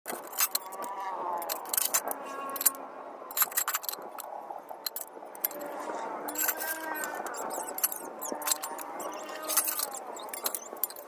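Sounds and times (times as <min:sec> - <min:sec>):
small metal pieces clinking: 0:00.1 - 0:11.0.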